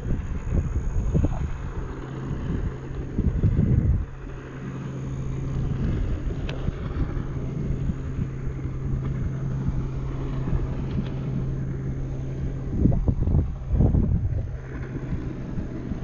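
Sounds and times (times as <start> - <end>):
small motor humming: 0.0 - 16.0
wind on microphone: 0.0 - 16.0.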